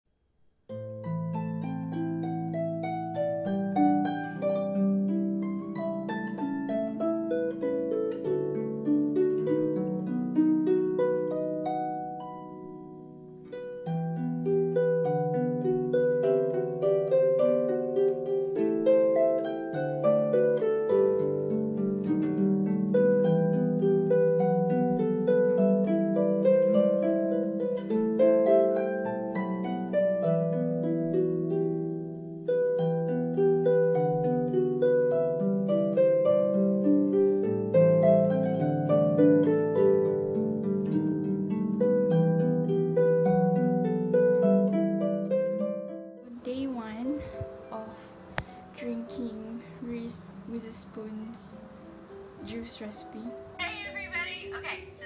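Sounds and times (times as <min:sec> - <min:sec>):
plucked string melody: 0:00.7 - 0:54.4.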